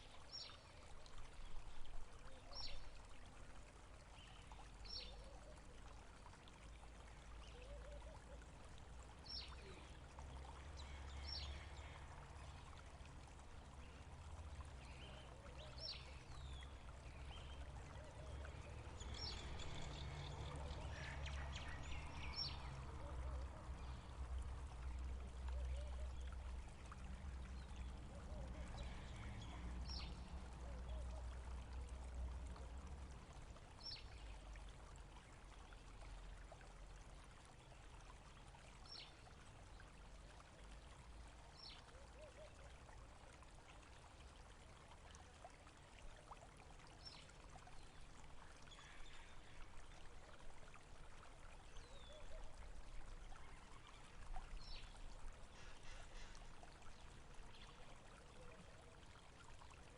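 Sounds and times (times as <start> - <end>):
faint running water: 0.0 - 59.9.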